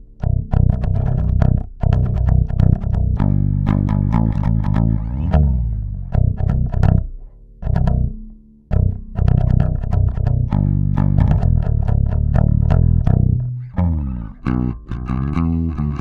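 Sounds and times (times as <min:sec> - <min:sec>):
bass guitar plucked notes: 0:00.0 - 0:16.0.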